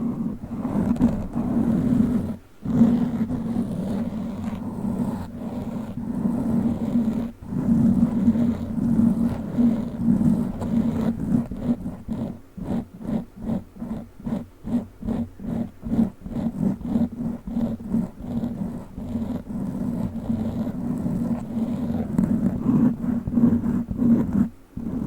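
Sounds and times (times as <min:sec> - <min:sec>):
rubbing on foam microphone cover: 0:00.0 - 0:25.0.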